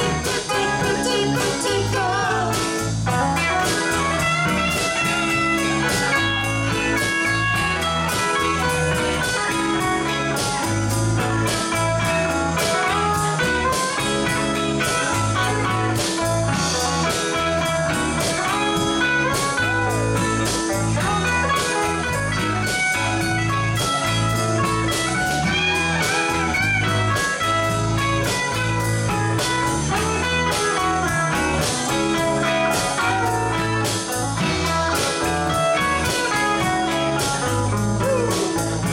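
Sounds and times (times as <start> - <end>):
pulsing bass line: 0.0 - 38.9
rock band playing: 0.0 - 38.9.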